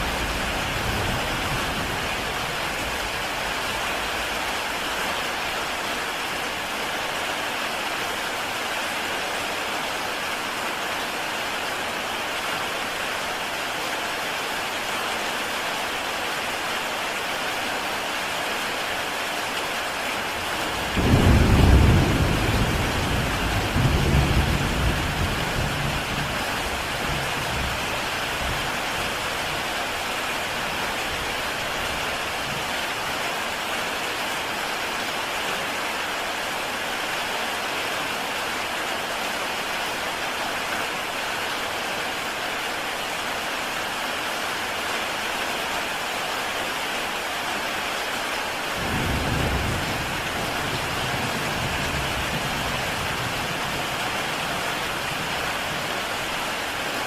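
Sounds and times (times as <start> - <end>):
heavy rain on a tile roof: 0.0 - 57.0.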